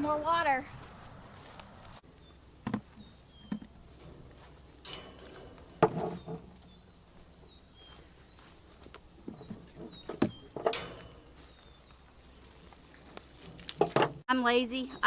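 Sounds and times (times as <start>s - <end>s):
footsteps: 0.0s - 14.2s
small birds chirping faintly: 0.0s - 15.0s
handling noises and knocks: 2.1s - 14.2s.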